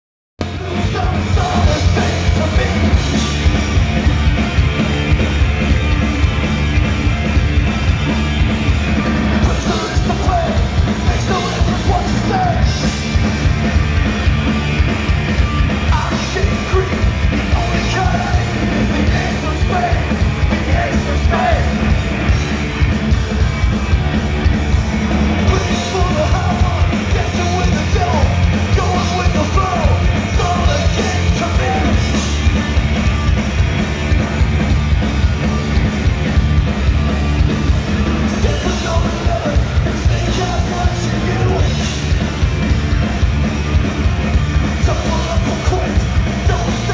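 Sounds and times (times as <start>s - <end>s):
live hard rock band: 0.4s - 46.9s.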